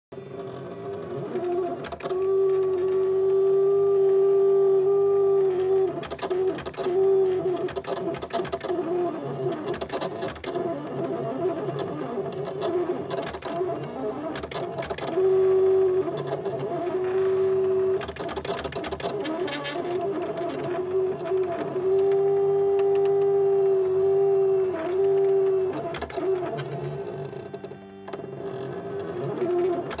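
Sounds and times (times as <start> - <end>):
cutting machine motors whining: 0.2 - 30.0.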